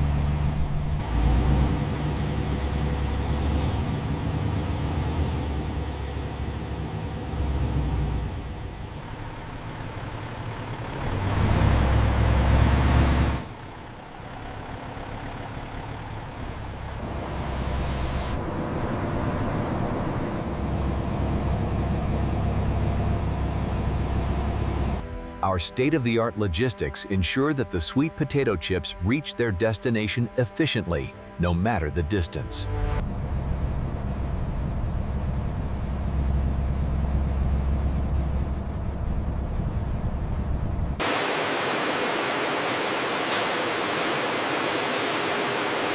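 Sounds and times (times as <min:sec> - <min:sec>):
truck engine rumbling: 0:00.0 - 0:41.0.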